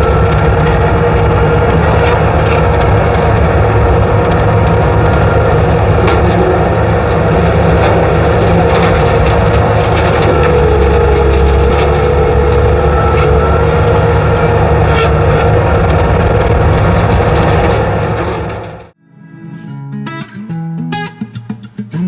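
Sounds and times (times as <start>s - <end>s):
rotary cutter engine rumbling: 0.0s - 19.0s.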